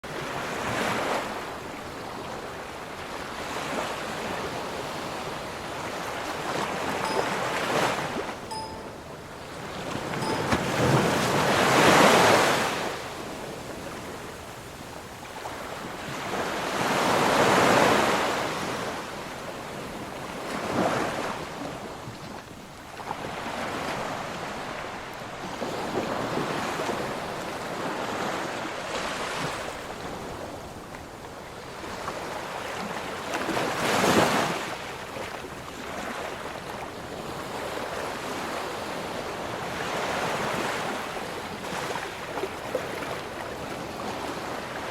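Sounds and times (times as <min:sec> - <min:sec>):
ocean waves crashing on shore: 0:00.1 - 0:44.9.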